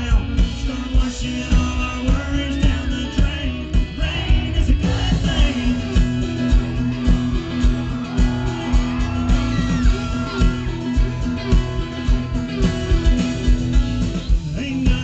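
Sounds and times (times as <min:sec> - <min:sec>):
bass and guitars: 0:00.0 - 0:15.0
drums keeping a steady beat: 0:00.0 - 0:15.0
lead guitar bent gliding notes: 0:00.0 - 0:15.0.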